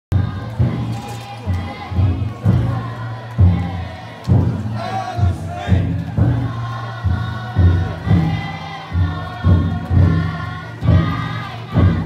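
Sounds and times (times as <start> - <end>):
crowd chanting rhythmically: 0.1 - 12.0
large drum beating: 0.1 - 12.0.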